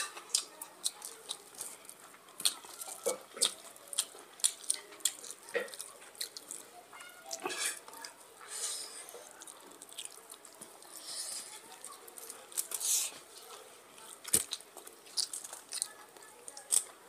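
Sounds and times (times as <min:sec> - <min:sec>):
chewing: 0:00.0 - 0:17.0
hands squishing rice and curry: 0:00.3 - 0:17.0.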